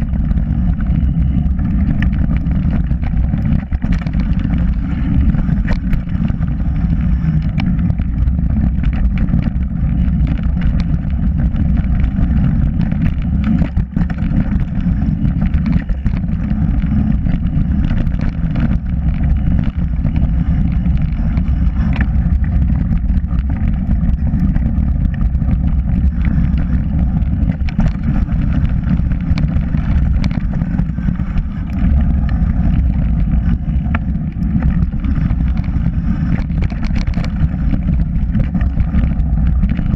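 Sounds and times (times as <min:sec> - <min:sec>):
bike rattles and knocks: 0:00.0 - 0:39.9
tyres rumbling over dirt trail: 0:00.0 - 0:39.9
wind buffeting microphone: 0:00.0 - 0:39.9.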